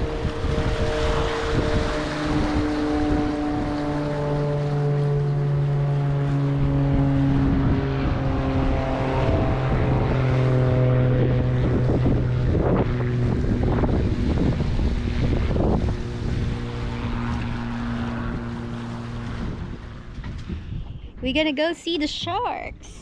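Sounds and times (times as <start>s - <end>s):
boat engine running: 0.0s - 23.0s
wind buffeting microphone: 0.0s - 23.0s.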